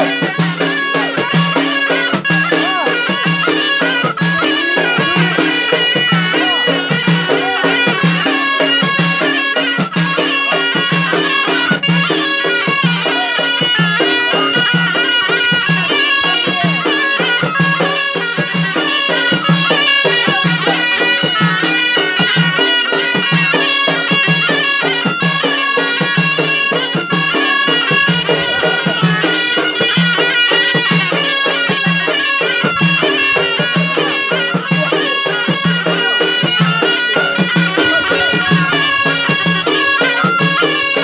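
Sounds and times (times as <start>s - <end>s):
frame drums beating: 0.0s - 41.0s
reedy wind instrument melody: 0.0s - 41.0s.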